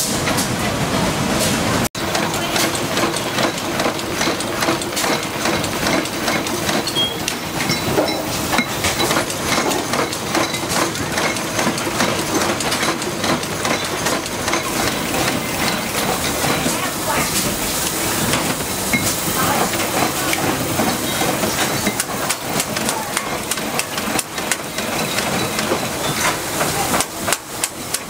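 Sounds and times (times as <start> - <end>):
machinery clicking and clattering: 0.0 - 28.0
steady machine hum: 0.0 - 28.0.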